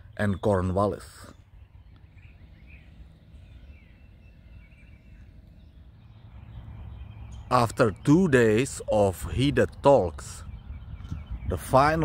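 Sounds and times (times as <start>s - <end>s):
faint bird chirps: 0.0s - 12.0s
low steady rumble: 0.0s - 12.0s.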